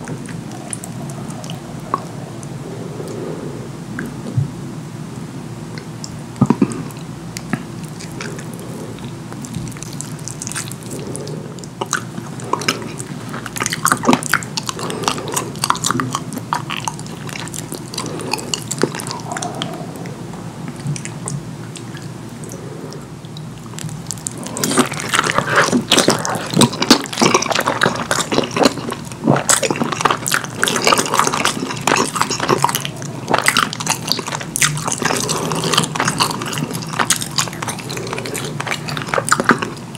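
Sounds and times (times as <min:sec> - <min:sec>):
wet chewing and lip smacking: 0:05.7 - 0:39.9.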